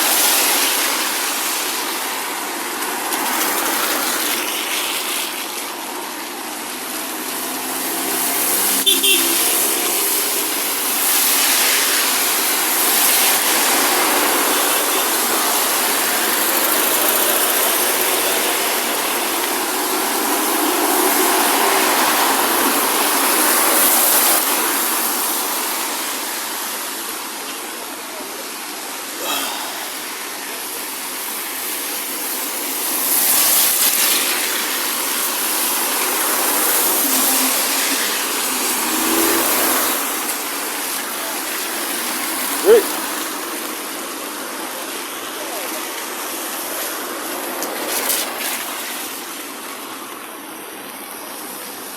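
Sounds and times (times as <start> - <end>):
heavy rain hissing: 0.0 - 51.9
traffic on wet road: 0.0 - 51.9.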